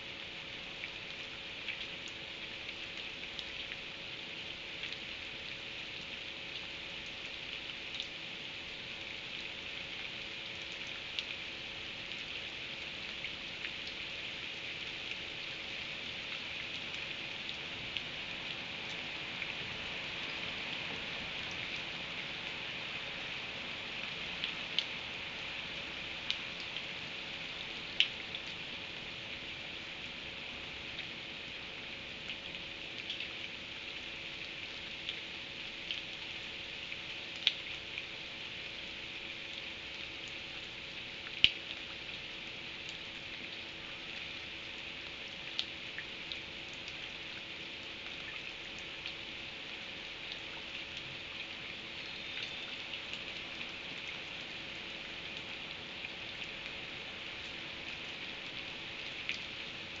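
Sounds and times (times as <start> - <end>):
faint steady hum: 0.0 - 60.0
rain falling: 0.0 - 60.0
raindrops tapping a surface: 4.5 - 33.8, 34.4 - 59.8.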